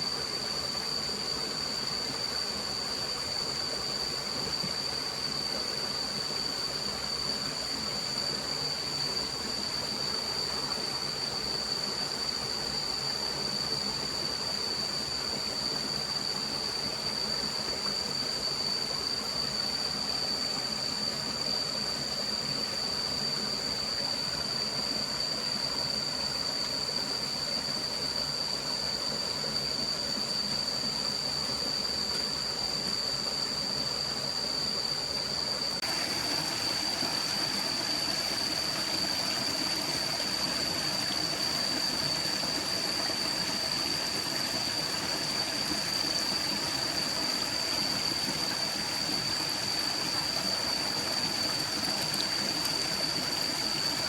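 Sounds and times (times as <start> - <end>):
constant high-pitched tone: 0.0 - 54.0
stream water flowing: 0.0 - 54.0.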